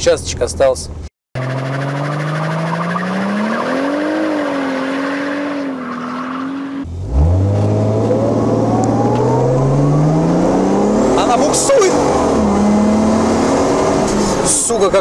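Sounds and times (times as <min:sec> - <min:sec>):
car engine revving: 0:01.4 - 0:15.0.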